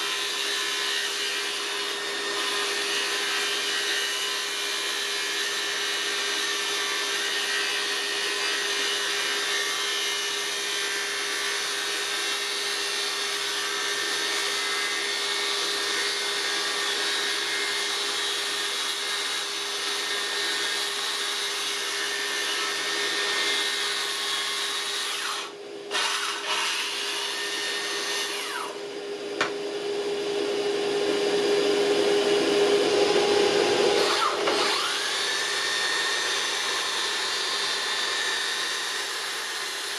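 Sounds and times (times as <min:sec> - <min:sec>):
power tool motor humming: 0:00.0 - 0:39.9.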